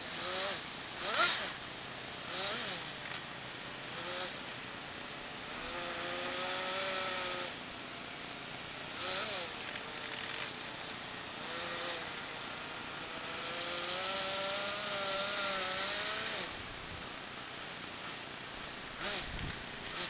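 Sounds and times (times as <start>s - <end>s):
small engine revving: 0.0s - 4.6s, 5.4s - 7.6s, 8.8s - 17.0s, 18.9s - 20.0s.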